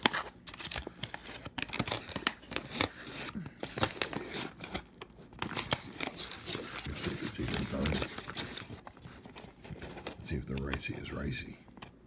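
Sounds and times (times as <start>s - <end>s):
foil pouch crinkling: 0.0s - 11.3s.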